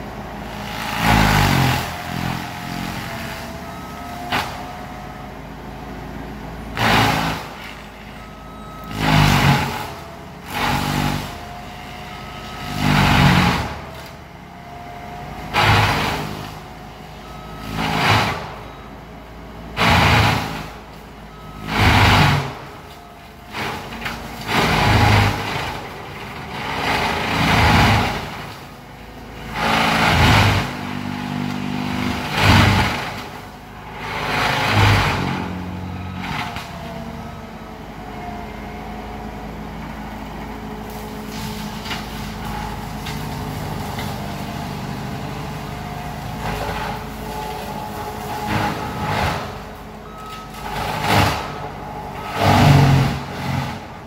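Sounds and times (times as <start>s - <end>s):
mulcher engine running: 0.0s - 54.0s.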